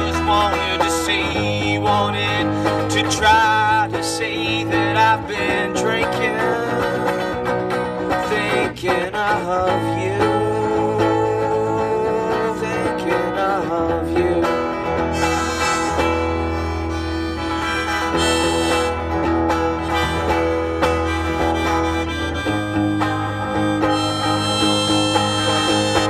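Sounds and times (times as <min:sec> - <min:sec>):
blues harmonica: 0:00.0 - 0:08.8, 0:09.5 - 0:26.0
electric guitar chords: 0:00.0 - 0:26.0.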